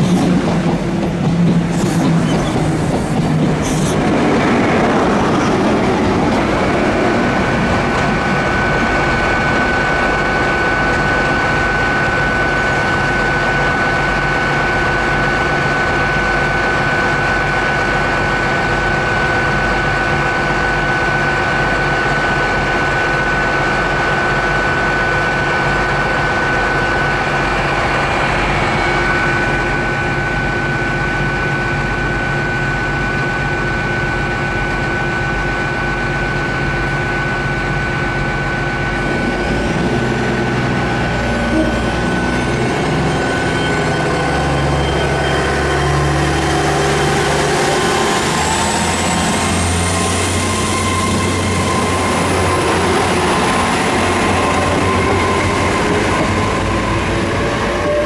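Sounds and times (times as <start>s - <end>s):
diesel engine drone: 0.0s - 58.0s
high whine: 0.0s - 58.0s.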